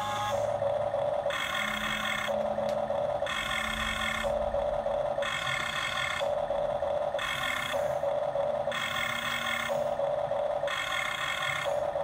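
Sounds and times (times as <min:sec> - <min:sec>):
high gear whine: 0:00.0 - 0:12.0
toy excavator motor hum: 0:00.0 - 0:12.0.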